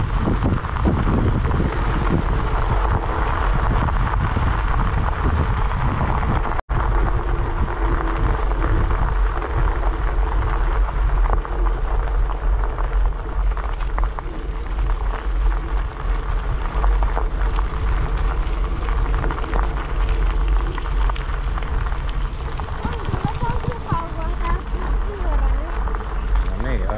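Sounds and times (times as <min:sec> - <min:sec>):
bike tyres rolling on gravel: 0:00.0 - 0:26.9
wind buffeting microphone: 0:00.0 - 0:26.9.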